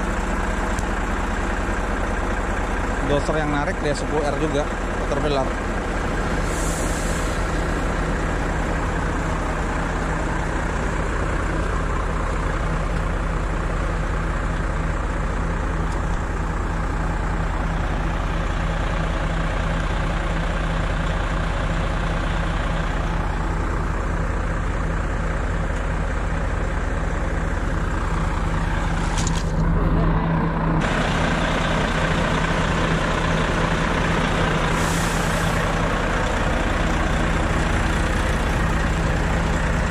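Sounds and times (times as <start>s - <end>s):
diesel engines idling: 0.0s - 39.9s.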